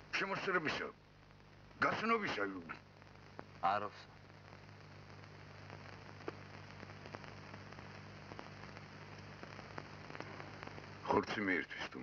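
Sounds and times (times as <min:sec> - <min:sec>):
faint clicks and crackles: 0:00.0 - 0:12.0
film soundtrack hiss: 0:00.0 - 0:12.0
low electrical hum: 0:00.0 - 0:12.0.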